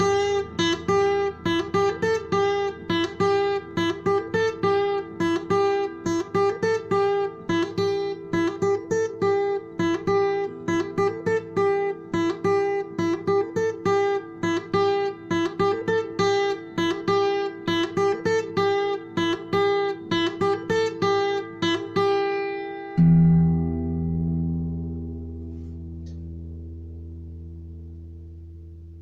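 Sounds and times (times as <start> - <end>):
plucked acoustic guitar: 0.0 - 29.0.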